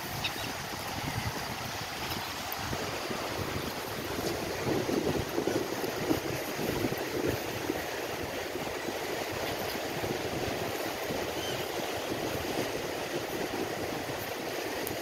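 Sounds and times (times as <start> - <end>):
waves washing onto shore: 0.0 - 15.0
wind buffeting microphone: 0.0 - 15.0.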